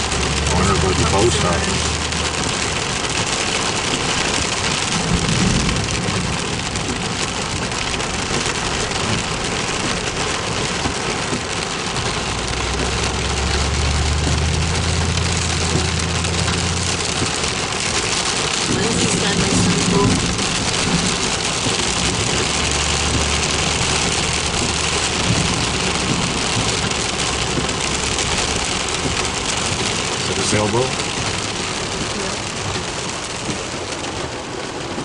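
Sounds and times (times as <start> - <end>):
heavy rain pouring: 0.0 - 35.0
low vehicle engine hum: 0.0 - 35.0.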